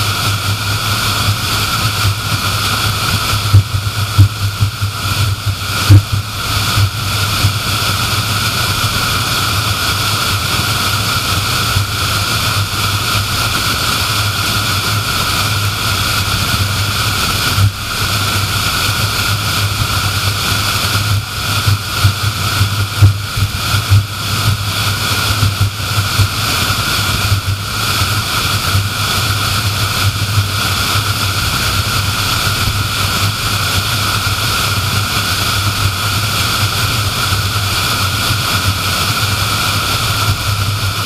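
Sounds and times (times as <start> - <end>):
low hum: 0.0 - 41.0
road and wind noise: 0.0 - 41.0.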